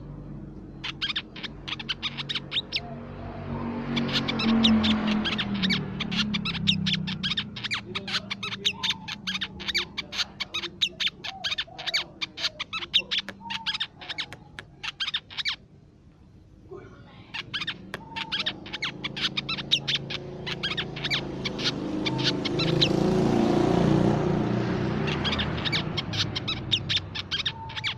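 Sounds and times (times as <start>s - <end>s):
bird calling with sharp chips: 0.7s - 3.0s, 3.8s - 15.6s, 17.3s - 23.2s, 25.0s - 27.9s.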